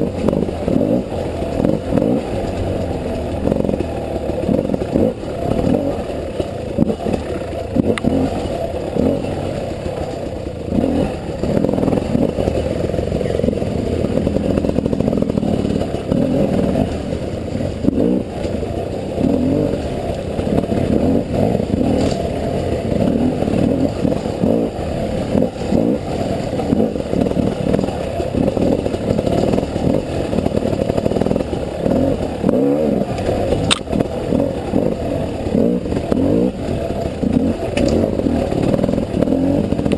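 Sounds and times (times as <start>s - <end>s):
muffled motorcycle engine revving: 0.0s - 39.9s.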